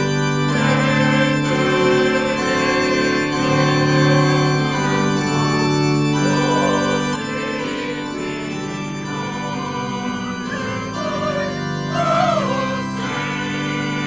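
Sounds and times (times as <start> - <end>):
music of long held chords: 0.0 - 14.0.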